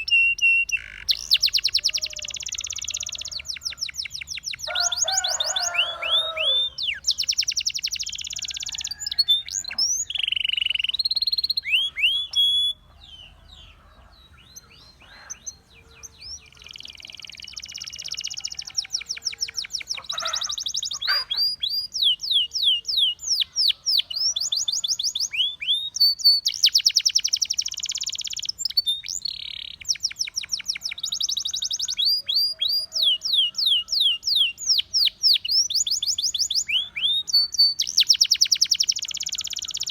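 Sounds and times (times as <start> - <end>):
canary singing trills and whistles: 0.0 - 39.9.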